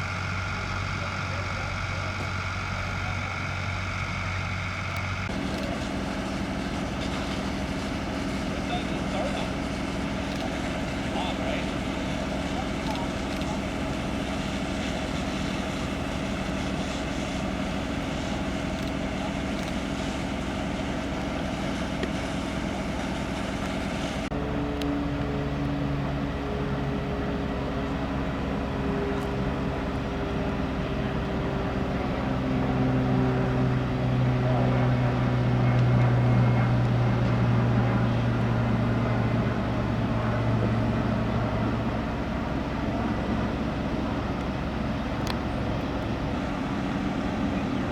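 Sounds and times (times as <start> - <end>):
diesel engine running: 0.0 - 47.9
low steady engine hum: 0.0 - 47.9.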